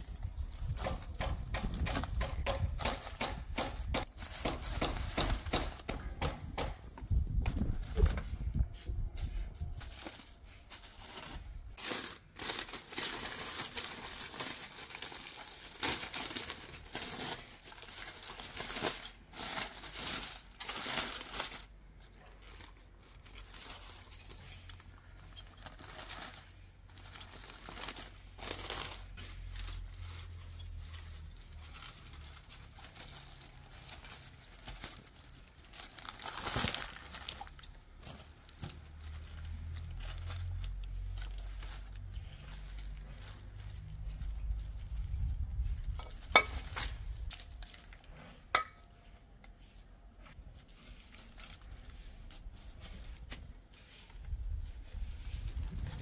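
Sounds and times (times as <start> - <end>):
foil and paper crinkling: 7.4 - 48.4, 50.4 - 56.0.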